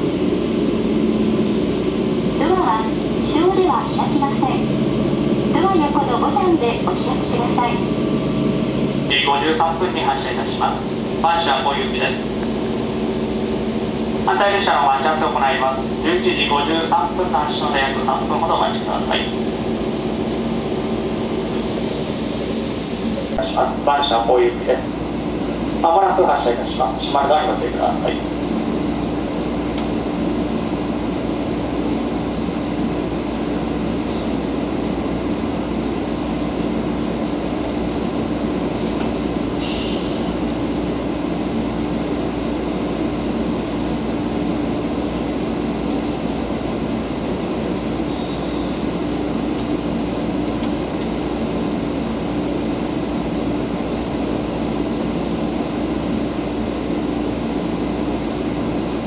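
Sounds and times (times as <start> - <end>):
electric train car hum: 0.0 - 59.0.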